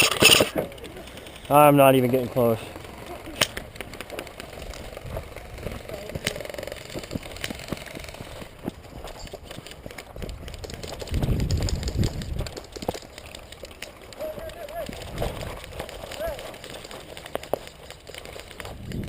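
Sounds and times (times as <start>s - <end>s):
irregular clicks and ticks: 0.0s - 2.2s, 2.9s - 19.0s
footsteps: 0.0s - 19.0s
gear rustling: 0.0s - 19.0s.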